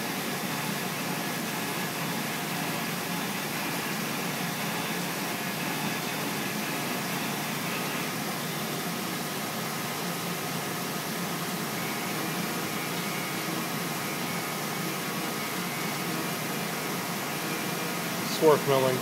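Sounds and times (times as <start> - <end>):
mill spindle running: 0.0 - 19.0.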